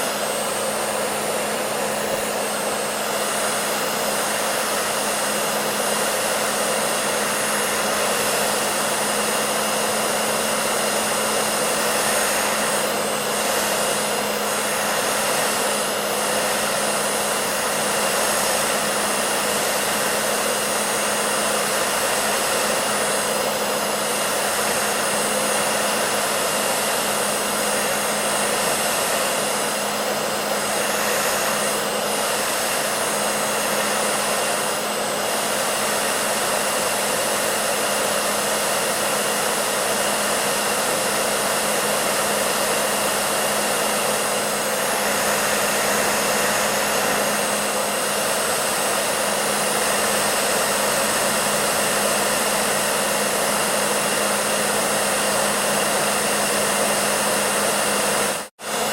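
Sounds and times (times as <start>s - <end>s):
hair dryer running: 0.0s - 58.9s.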